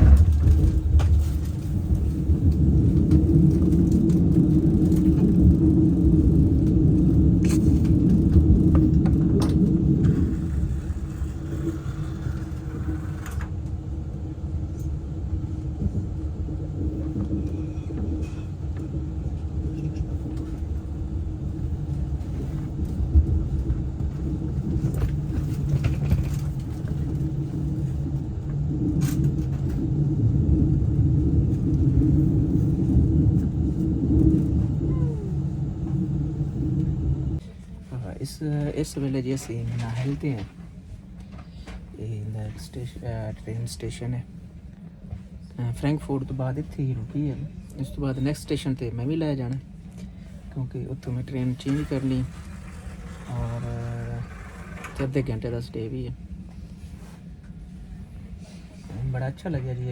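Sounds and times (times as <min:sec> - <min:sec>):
train interior rumble: 0:00.0 - 0:59.9.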